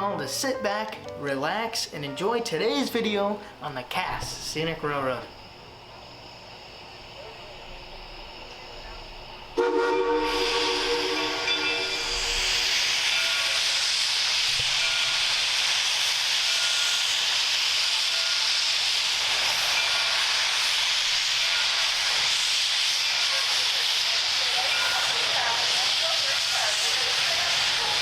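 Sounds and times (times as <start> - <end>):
steam locomotive hissing: 0.0 - 28.0.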